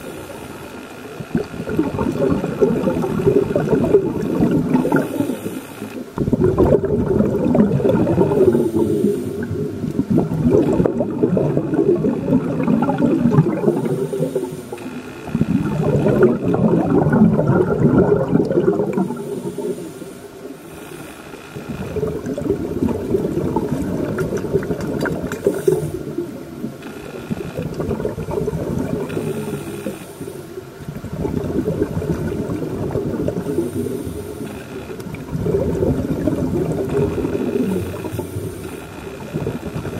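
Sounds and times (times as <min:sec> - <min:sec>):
underwater regulator exhaust bubbles: 0:00.0 - 0:39.9.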